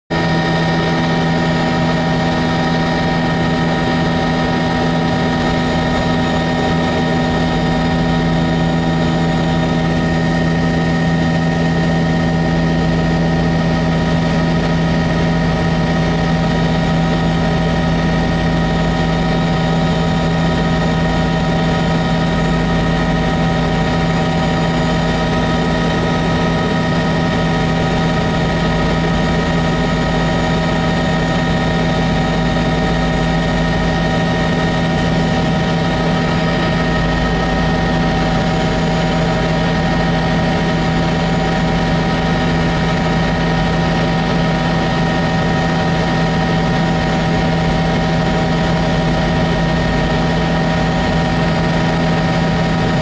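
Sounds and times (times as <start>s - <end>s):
helicopter engine and rotor noise: 0.1s - 53.0s.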